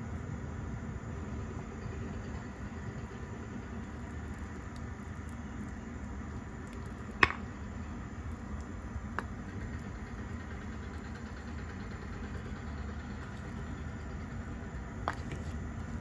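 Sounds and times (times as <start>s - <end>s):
low stove hum: 0.0s - 16.0s.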